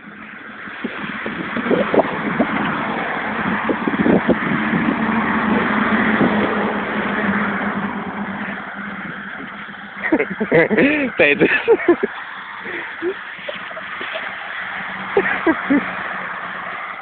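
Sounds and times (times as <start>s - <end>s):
motor vehicle running: 0.0s - 17.0s.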